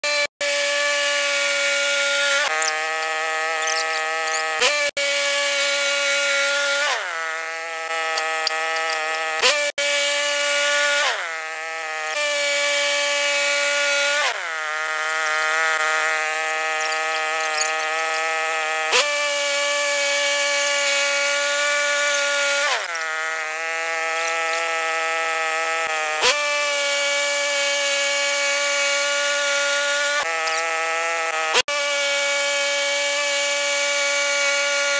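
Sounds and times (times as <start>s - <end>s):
band sawmill cutting log: 0.0s - 34.9s.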